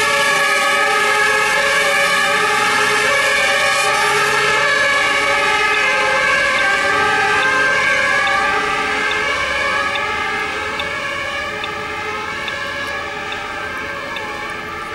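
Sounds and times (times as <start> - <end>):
fire engine sirens: 0.0 - 14.9.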